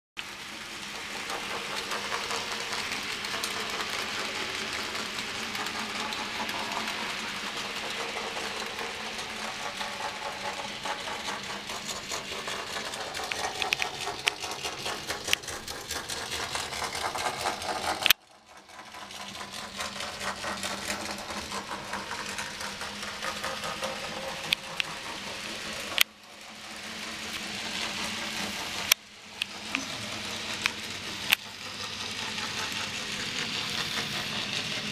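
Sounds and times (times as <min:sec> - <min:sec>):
model train motor whirring: 0:00.2 - 0:34.9
wheels clicking on track: 0:00.2 - 0:34.9.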